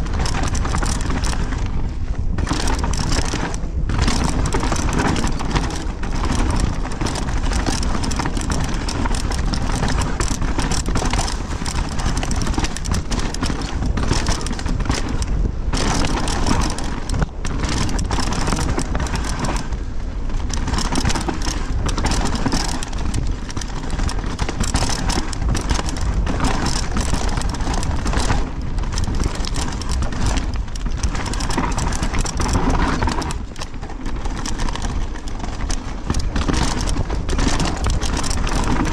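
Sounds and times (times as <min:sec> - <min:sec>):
bike rattling and knocking: 0:00.0 - 0:38.9
bike tyres rolling over dirt: 0:00.0 - 0:38.9
wind rushing over camera: 0:00.0 - 0:38.9.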